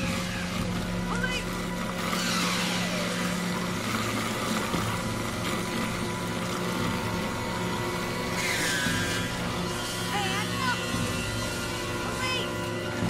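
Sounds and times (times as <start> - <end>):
wood chipper running: 0.0 - 13.0.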